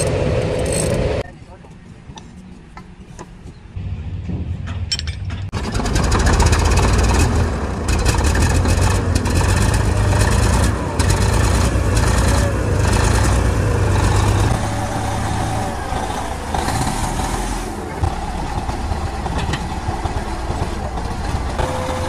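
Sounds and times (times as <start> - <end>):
bulldozer diesel engine running: 0.0 - 1.4, 3.8 - 22.0.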